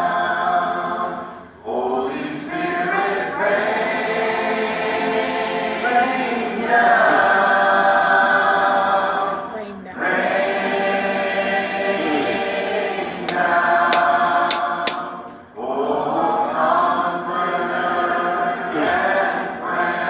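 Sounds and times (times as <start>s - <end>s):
a cappella harmony singing: 0.0s - 20.0s.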